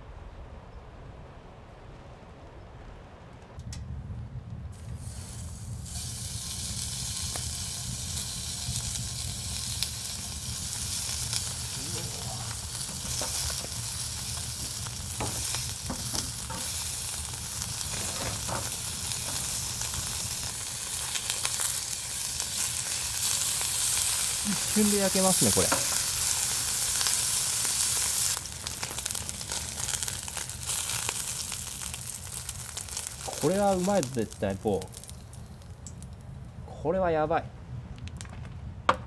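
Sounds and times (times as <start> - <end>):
meat sizzling: 4.8 - 36.1.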